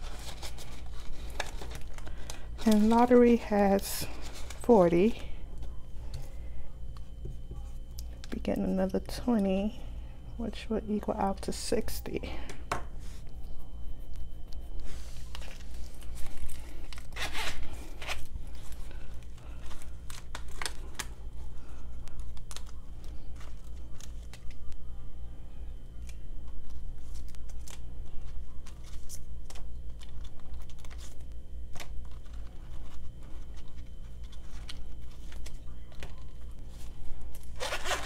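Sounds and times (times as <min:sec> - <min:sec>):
plastic sleeves and paper crinkling: 0:00.0 - 0:08.9, 0:13.0 - 0:25.0, 0:25.9 - 0:38.0
steady low hum: 0:00.0 - 0:38.0.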